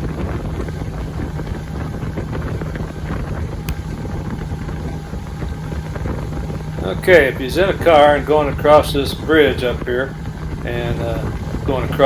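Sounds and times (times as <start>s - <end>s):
motorboat engine humming: 0.0s - 12.0s
wind buffeting microphone: 0.0s - 12.0s.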